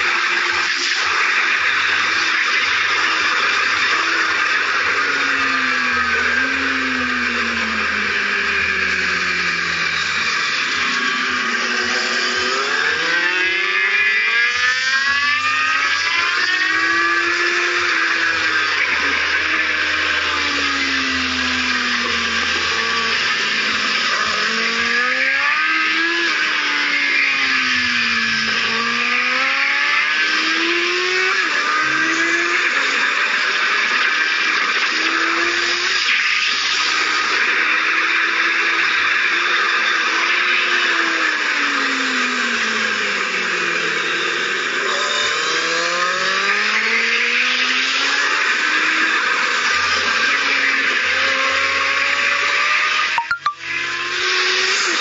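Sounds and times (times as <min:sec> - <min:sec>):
motorcycle engine revving: 0:00.0 - 0:34.2, 0:37.7 - 0:53.2.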